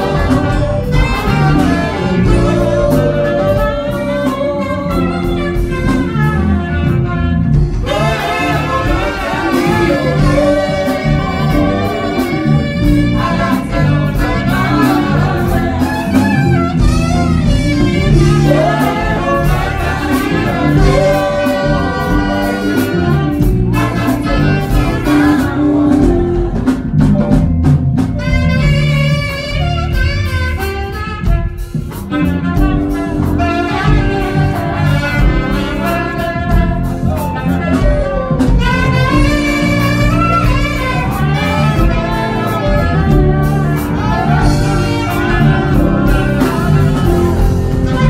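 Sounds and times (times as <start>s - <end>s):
two saxophones playing: 0.0s - 26.6s, 28.1s - 48.0s
bass and drum accompaniment: 0.0s - 48.0s.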